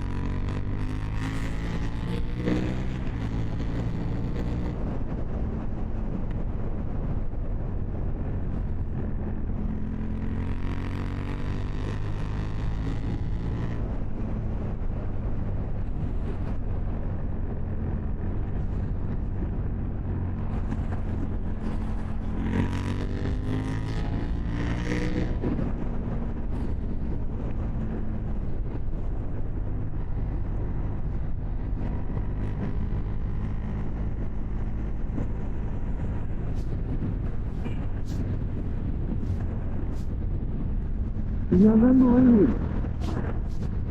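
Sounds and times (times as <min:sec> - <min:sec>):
motorcycle engine revving: 0:00.0 - 0:05.3, 0:09.4 - 0:16.6, 0:20.0 - 0:43.9.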